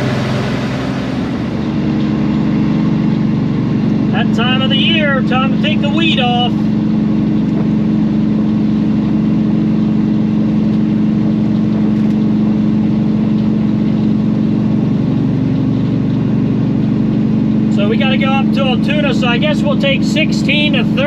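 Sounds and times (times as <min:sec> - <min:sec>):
road noise: 0:00.0 - 0:21.0
truck diesel engine drone: 0:00.0 - 0:21.0.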